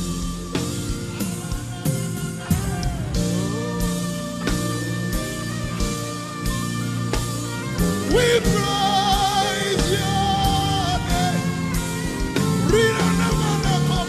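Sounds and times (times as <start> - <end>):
wavering melody line: 0.0 - 14.0
worship band playing: 0.0 - 14.0.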